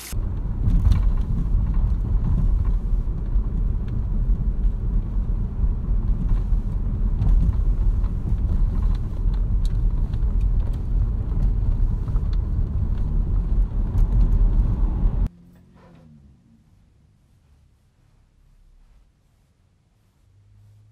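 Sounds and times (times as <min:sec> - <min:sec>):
road and engine rumble in car cabin: 0:00.0 - 0:20.9.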